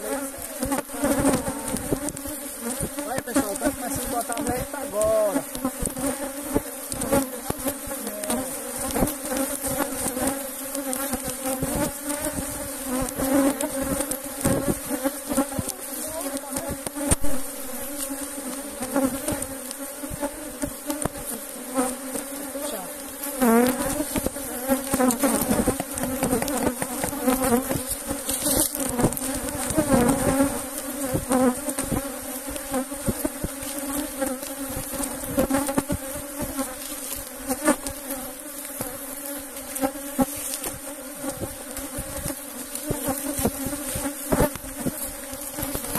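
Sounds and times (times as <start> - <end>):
hum of swarming bees: 0.0 - 45.9
single bee buzzing past: 0.0 - 45.9.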